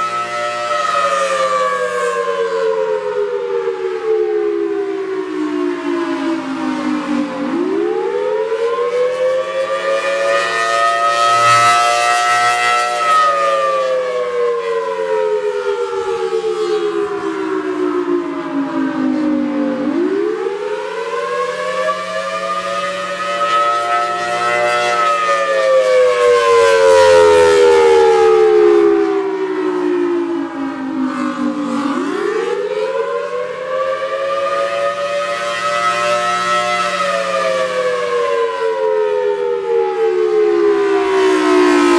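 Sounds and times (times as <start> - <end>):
warning siren rising and falling: 0.0 - 41.9.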